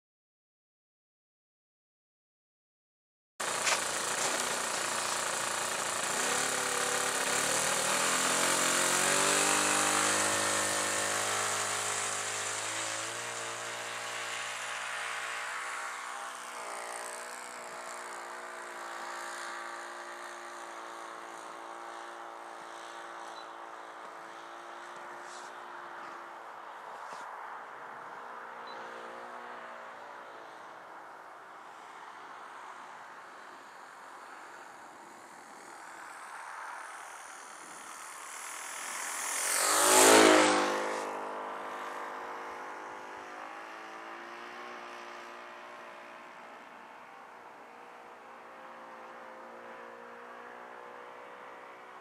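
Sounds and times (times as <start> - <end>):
model plane engine: 3.4 - 26.5, 30.2 - 50.5.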